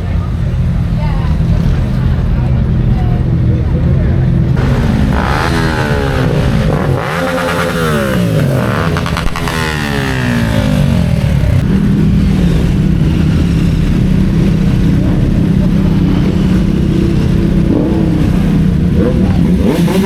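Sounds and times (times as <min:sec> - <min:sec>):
steady engine note: 0:00.0 - 0:20.0
motorcycles riding past: 0:00.8 - 0:20.0.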